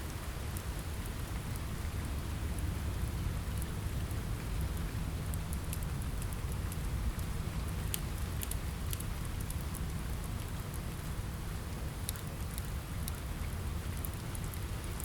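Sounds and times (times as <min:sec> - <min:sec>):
rain on a window: 0:00.0 - 0:15.0.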